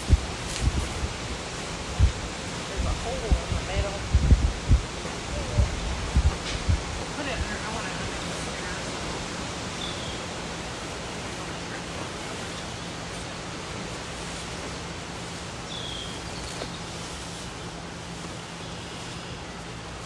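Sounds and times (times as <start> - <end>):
air conditioner running: 0.0 - 20.0.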